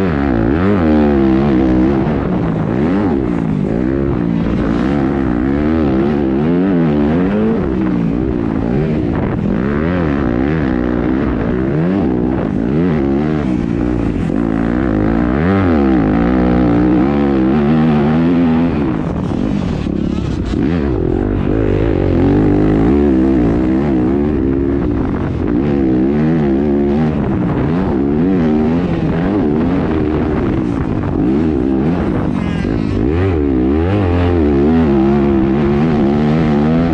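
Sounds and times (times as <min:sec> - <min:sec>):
motocross bike engine revving: 0:00.0 - 0:36.9.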